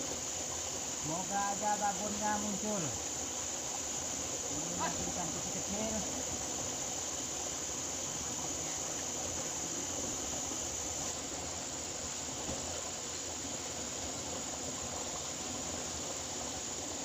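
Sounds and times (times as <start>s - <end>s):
background hiss: 0.0s - 17.0s
insects chirring: 0.0s - 17.0s.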